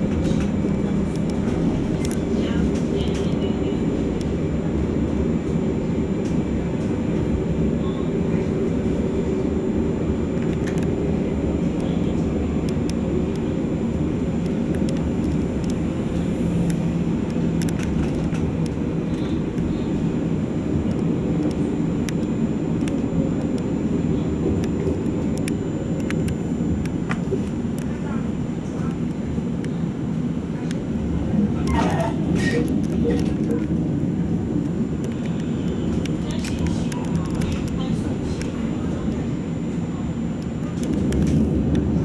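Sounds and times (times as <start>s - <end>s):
tram wheels and motors rumbling: 0.0s - 42.0s.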